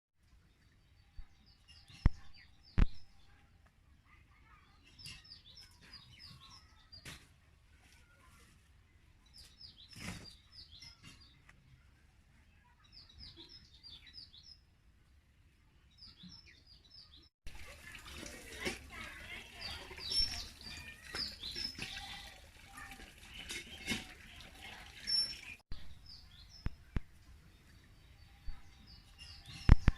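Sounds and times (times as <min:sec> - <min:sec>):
small birds chirping: 0:00.3 - 0:29.9.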